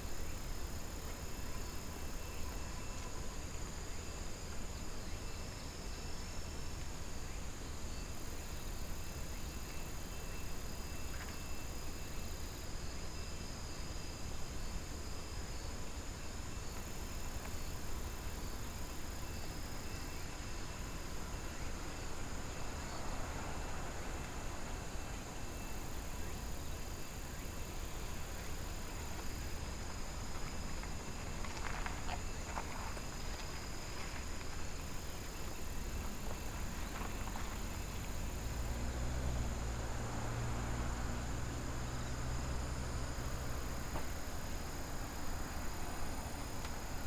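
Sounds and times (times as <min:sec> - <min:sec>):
crickets and insects singing: 0:07.2 - 0:47.0.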